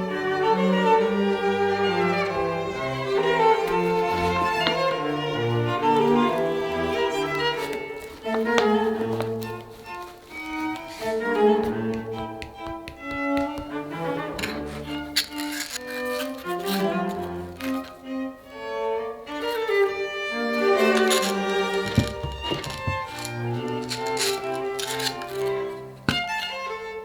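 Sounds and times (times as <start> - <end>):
bowed strings music: 0.0 - 27.0.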